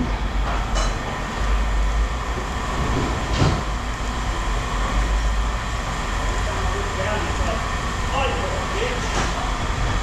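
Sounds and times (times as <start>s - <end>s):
heavy machinery engine rumble: 0.0s - 10.0s.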